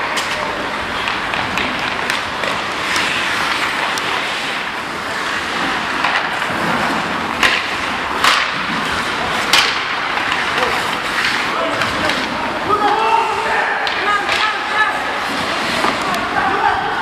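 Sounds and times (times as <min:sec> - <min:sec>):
hockey sticks and puck clacking: 0:00.0 - 0:17.0
skate blades scraping ice: 0:00.0 - 0:17.0.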